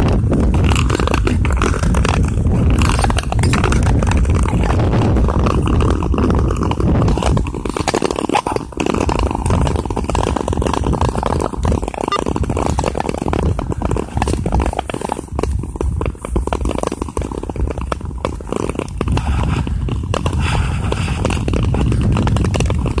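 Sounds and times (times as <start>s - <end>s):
ice skates scraping on ice: 0.0s - 23.0s
sharp clicks and crackles of ice: 0.0s - 23.0s
wind rumble on microphone: 0.0s - 23.0s.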